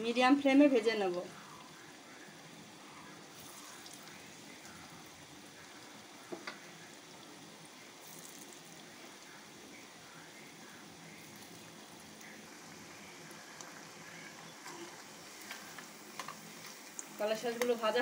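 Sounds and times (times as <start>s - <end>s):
deep-frying sizzle and bubbling: 0.0s - 18.0s.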